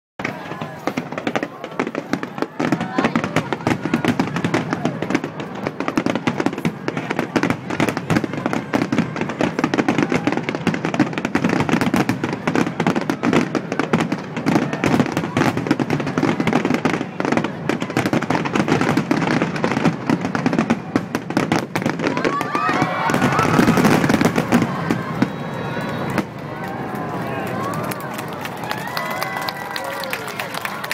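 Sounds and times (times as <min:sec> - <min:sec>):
fireworks bangs and crackling: 0:00.2 - 0:30.9.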